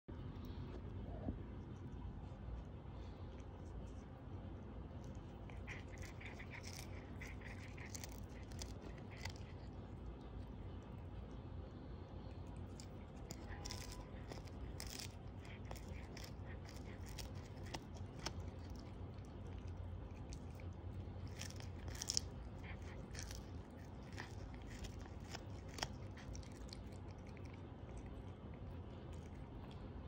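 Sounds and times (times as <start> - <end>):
cat chewing crunchy fish: 0.1 - 30.0.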